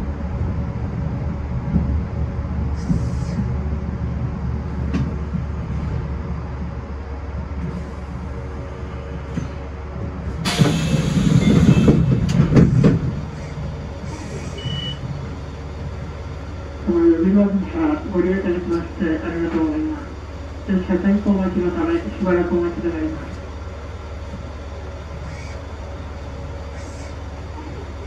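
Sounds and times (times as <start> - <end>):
electric train running: 0.0 - 28.0.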